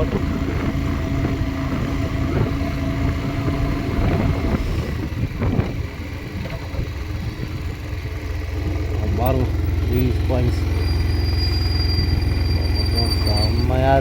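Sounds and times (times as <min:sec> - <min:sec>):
motorcycle engine running: 0:00.0 - 0:14.0
road noise: 0:00.0 - 0:14.0.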